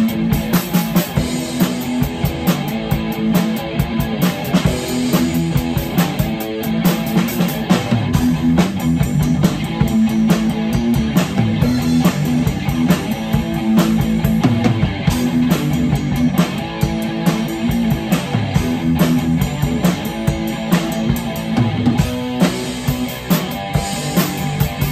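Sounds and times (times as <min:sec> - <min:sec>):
drum kit with cymbals: 0:00.0 - 0:24.9.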